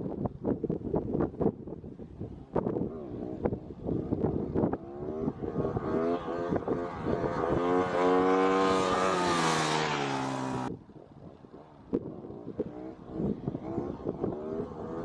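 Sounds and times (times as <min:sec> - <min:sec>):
motorcycle engine revving: 0:02.2 - 0:10.8, 0:11.6 - 0:15.0.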